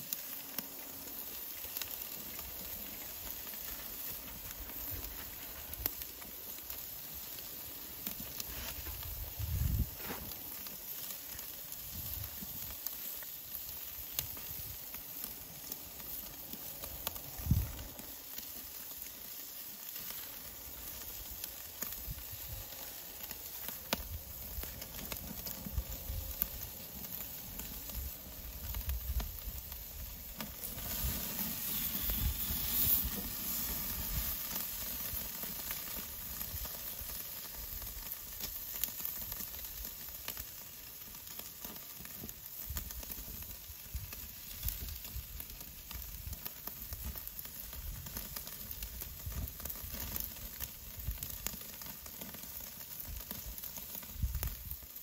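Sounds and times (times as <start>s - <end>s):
crackles and pops: 0.0s - 55.0s
food sizzling on a grill: 0.0s - 55.0s.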